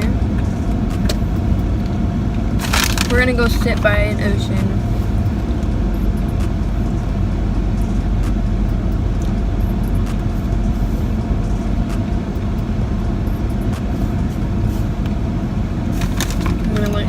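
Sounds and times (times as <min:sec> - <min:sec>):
car road and engine rumble: 0:00.0 - 0:17.0
faint steady hum: 0:00.0 - 0:17.0.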